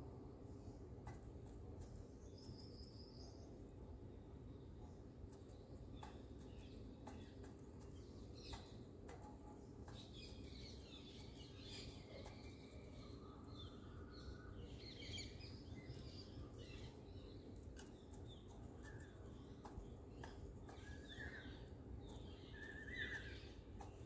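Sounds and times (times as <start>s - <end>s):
low steady hum: 0.0s - 24.0s
small birds chirping: 0.1s - 24.0s.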